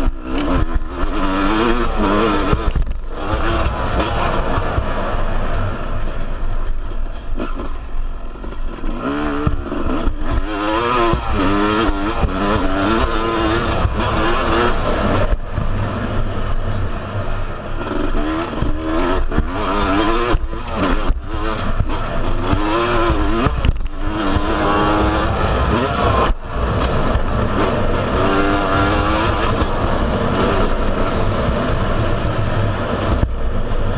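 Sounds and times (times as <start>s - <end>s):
motocross engine revving: 0.0s - 33.9s.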